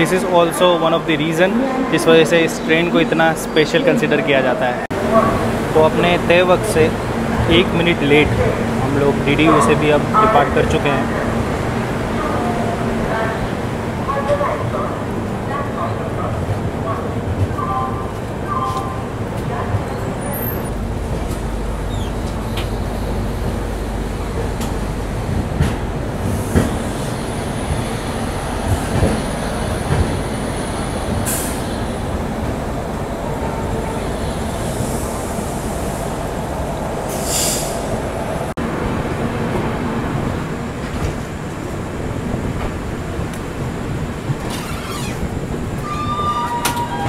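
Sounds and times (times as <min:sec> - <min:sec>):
train coach rumble: 0:00.0 - 0:47.0.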